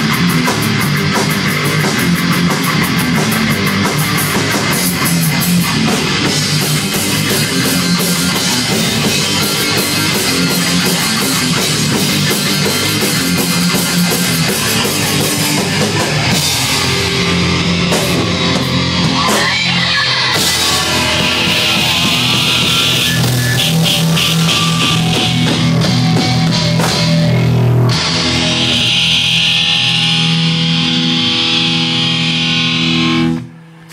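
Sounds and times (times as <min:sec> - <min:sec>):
drum kit with cymbals: 0:00.0 - 0:30.7
bass guitar: 0:00.0 - 0:33.9
electric guitars: 0:00.0 - 0:33.9.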